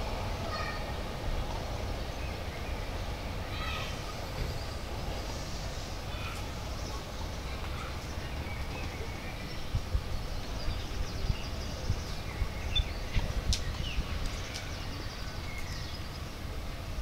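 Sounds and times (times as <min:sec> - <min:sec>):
small birds chirping: 0:01.7 - 0:16.6.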